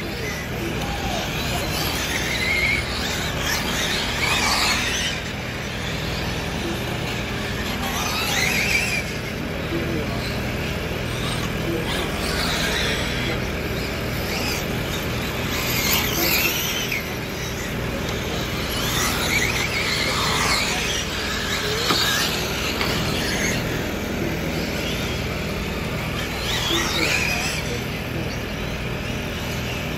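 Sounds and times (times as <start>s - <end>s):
toy car electric motors whining: 0.0s - 29.9s.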